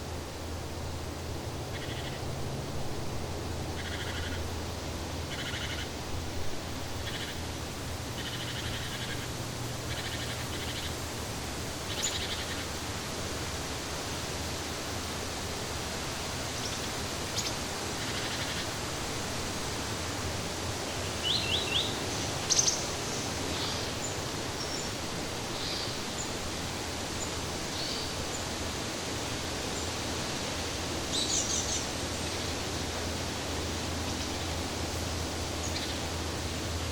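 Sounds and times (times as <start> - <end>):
steady forest hiss: 0.0 - 36.9.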